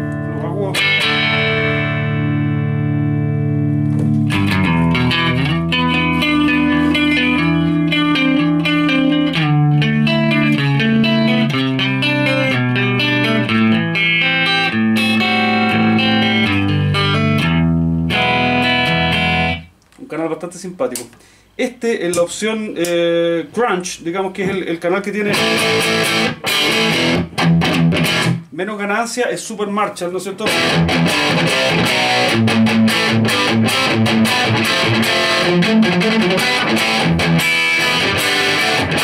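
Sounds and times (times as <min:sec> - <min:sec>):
clean electric guitar: 0:00.0 - 0:19.8, 0:25.3 - 0:28.6, 0:30.4 - 0:39.0.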